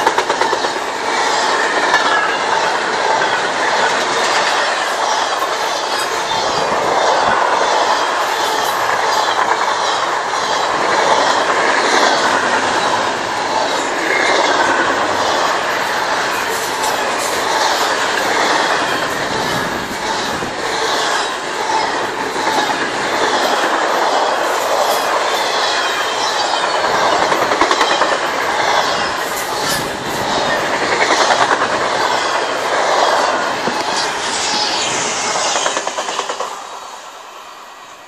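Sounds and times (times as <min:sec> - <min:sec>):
freight train wheels rumbling on rail: 0:00.0 - 0:38.0
train clicking and clattering: 0:00.0 - 0:38.0.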